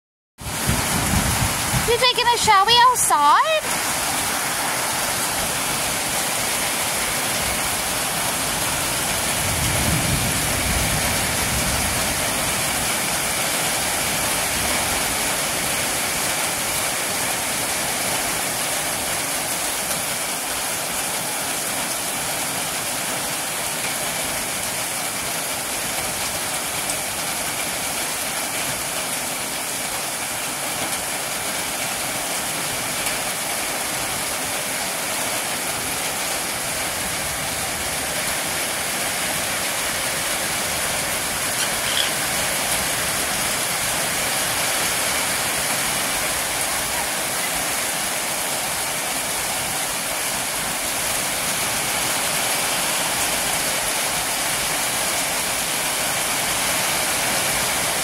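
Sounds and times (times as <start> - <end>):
heavy rain falling: 0.4 - 58.0.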